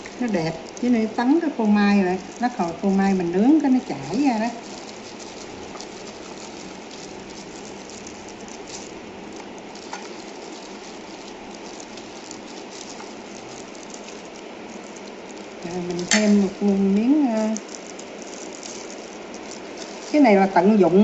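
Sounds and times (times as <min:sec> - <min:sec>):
faint rain ticks: 0:00.0 - 0:21.0.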